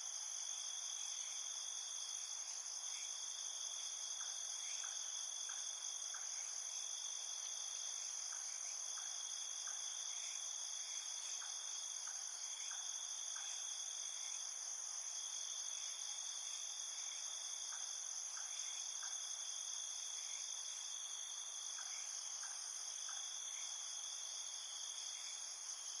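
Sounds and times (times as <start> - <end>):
single cricket chirps: 0.0 - 26.0.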